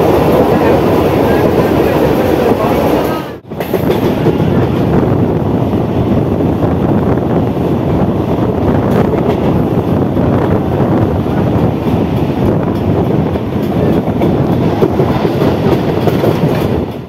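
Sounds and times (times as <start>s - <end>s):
electric train rumble: 0.0s - 17.0s
wind rushing over microphone: 0.0s - 17.0s.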